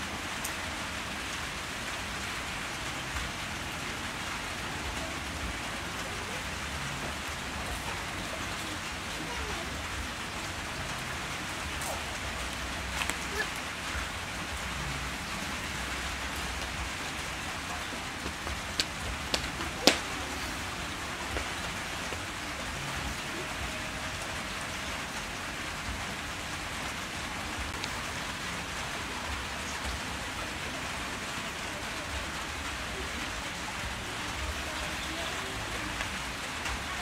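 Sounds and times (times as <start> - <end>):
background hiss: 0.0 - 31.4.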